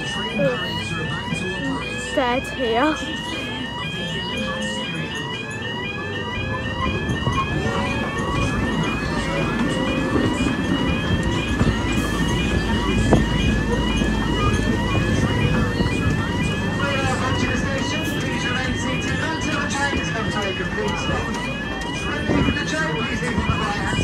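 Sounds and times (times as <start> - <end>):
level crossing alarm yelping: 0.0 - 24.0
small ride train rumbling: 0.0 - 24.0.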